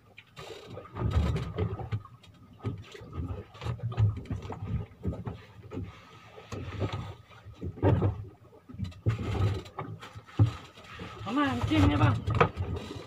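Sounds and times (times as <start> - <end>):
water slapping against hull: 0.0 - 13.0.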